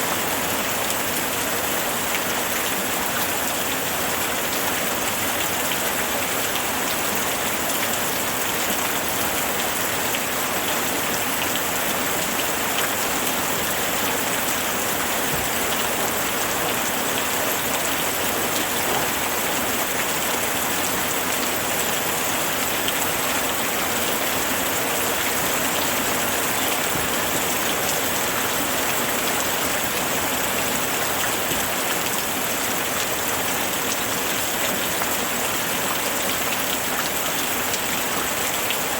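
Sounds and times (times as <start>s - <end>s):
steady rain hiss: 0.0s - 38.9s
raindrops ticking on surface: 0.1s - 38.9s.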